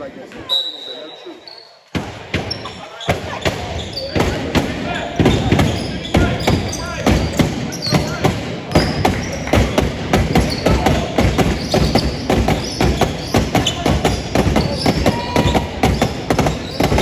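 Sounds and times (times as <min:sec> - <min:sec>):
sneaker squeaks on floor: 0:00.4 - 0:04.4, 0:05.2 - 0:17.0
basketball bouncing: 0:02.0 - 0:17.0
footsteps thumping on court: 0:02.0 - 0:17.0.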